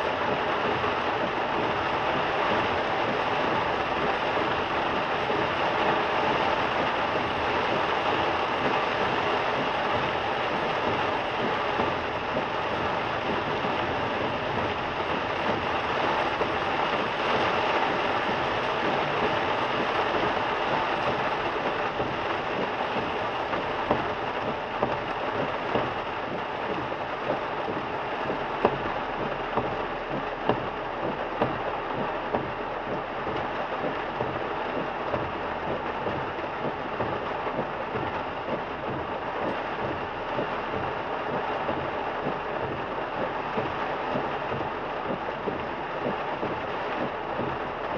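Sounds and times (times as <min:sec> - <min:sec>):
heavy rain pelting a car: 0:00.0 - 0:47.9.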